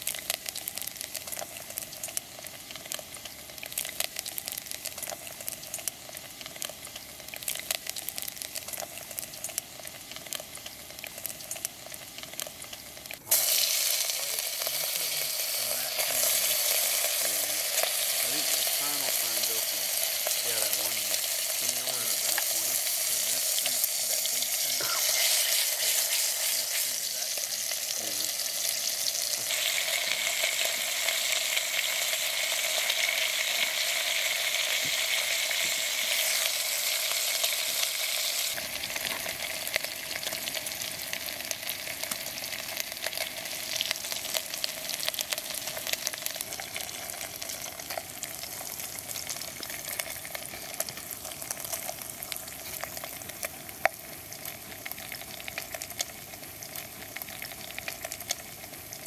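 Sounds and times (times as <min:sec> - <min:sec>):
bacon sizzling in oil: 0:00.0 - 0:59.0.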